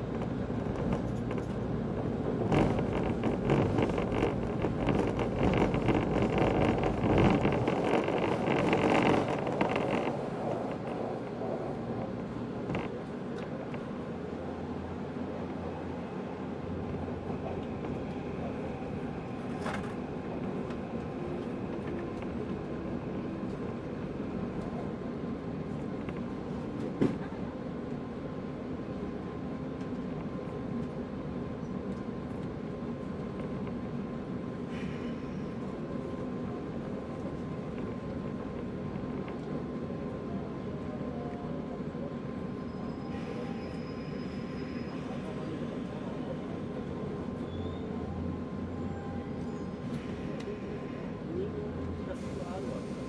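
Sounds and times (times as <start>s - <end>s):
electric train rumble: 0.0s - 53.0s.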